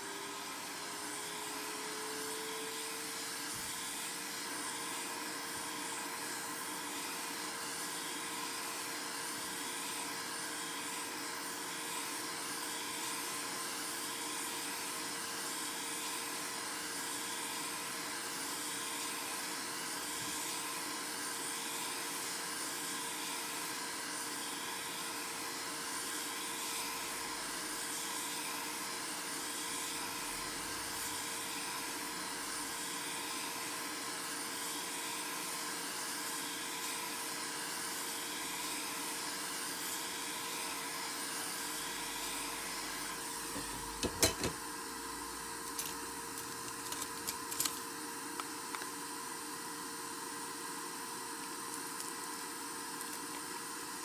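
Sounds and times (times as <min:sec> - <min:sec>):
electric blower running: 0:00.0 - 0:54.0.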